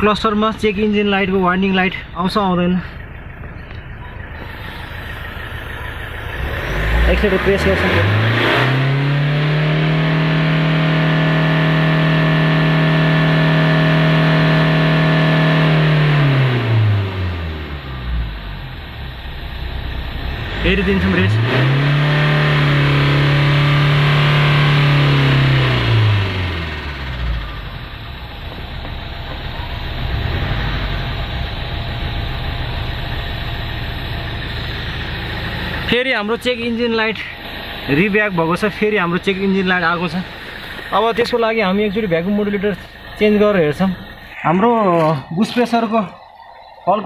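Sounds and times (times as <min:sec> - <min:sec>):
diesel engine revving: 0:00.0 - 0:47.0.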